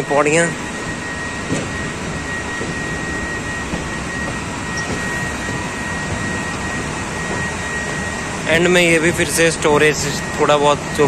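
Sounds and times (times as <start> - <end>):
factory background roar: 0.0 - 11.0
thin high whine: 0.0 - 11.0.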